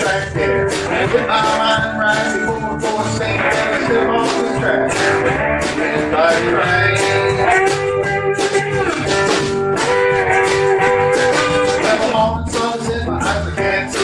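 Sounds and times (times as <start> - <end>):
bass: 0.0 - 14.0
electric guitars: 0.0 - 14.0
steady drum beat: 0.0 - 14.0
strummed acoustic guitar: 0.0 - 14.0.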